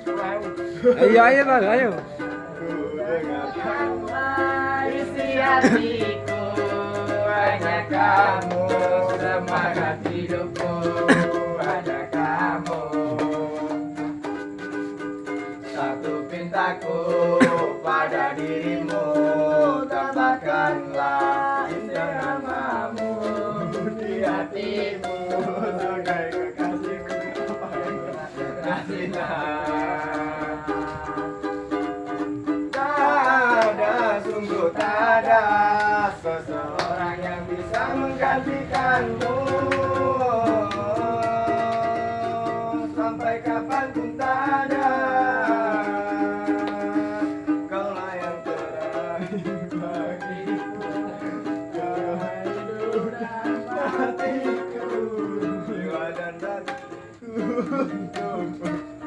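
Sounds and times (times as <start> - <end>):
young men singing pop song: 0.0 - 14.2, 15.6 - 31.5, 32.7 - 59.0
strummed string instrument: 0.0 - 59.0.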